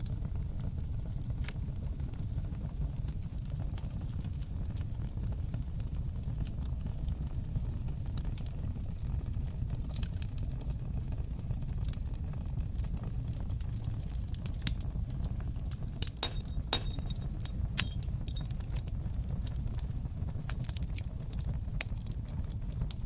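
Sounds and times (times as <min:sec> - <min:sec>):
fire pops and snaps: 0:00.0 - 0:23.0
wood fire crackling: 0:00.0 - 0:23.0.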